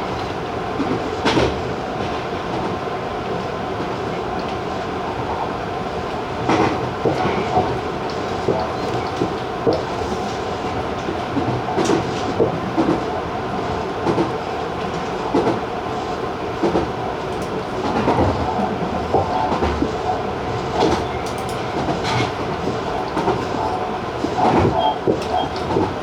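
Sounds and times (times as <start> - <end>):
electric train rolling rumble: 0.0 - 26.0.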